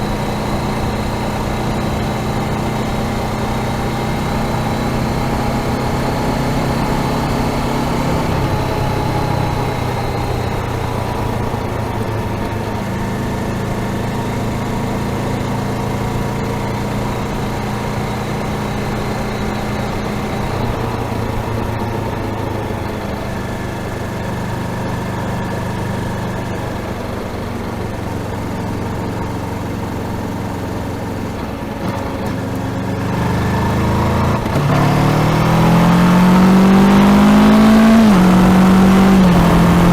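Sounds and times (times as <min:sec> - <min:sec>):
motorcycle engine idling: 0:00.0 - 0:34.5.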